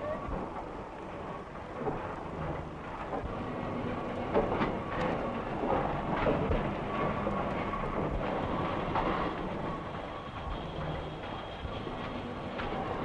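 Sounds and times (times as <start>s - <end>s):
locomotive clanks and knocks: 0.0s - 13.0s.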